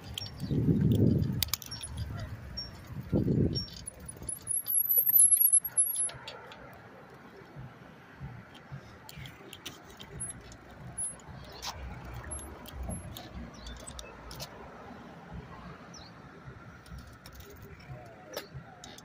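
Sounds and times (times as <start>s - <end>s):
bike clicks and rattles: 0.0s - 7.6s, 8.3s - 14.7s, 16.8s - 19.0s
low traffic rumble: 0.0s - 19.0s.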